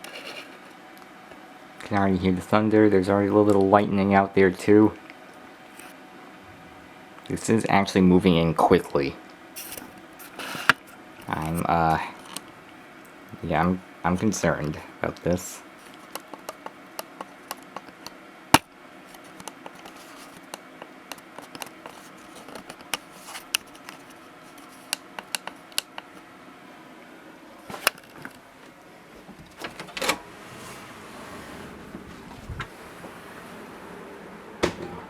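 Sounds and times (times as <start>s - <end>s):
room hum: 0.0s - 35.0s.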